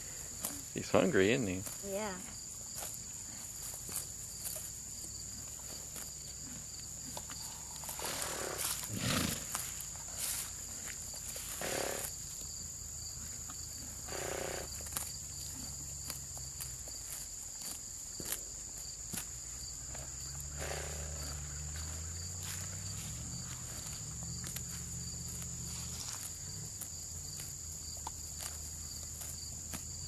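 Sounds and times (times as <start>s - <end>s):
crickets trilling: 0.0s - 30.0s
low horse sounds: 0.0s - 30.0s
horse chewing grass: 0.2s - 20.2s, 21.0s - 30.0s.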